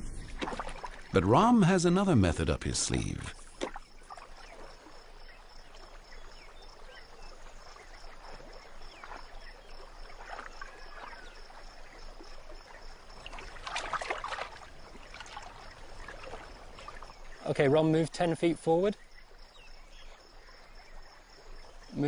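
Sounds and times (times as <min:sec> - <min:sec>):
faint water noise: 0:00.0 - 0:22.0.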